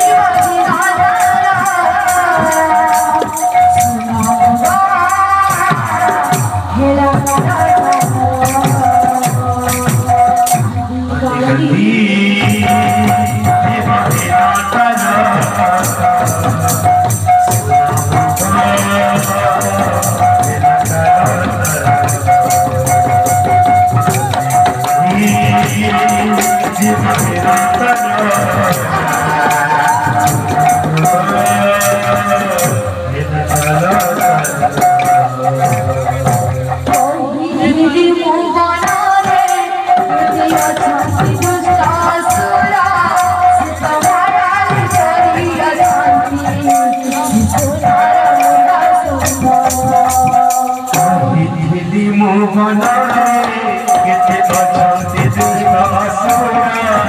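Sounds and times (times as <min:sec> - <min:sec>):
drum beat: 0:00.0 - 0:57.0
jingling hand cymbals: 0:00.0 - 0:57.0
woman singing: 0:00.0 - 0:57.0.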